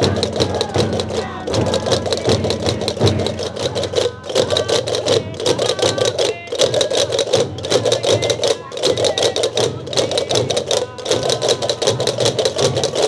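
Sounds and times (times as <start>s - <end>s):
drums beating: 0.0s - 13.0s
wooden castanets clattering: 0.0s - 13.0s.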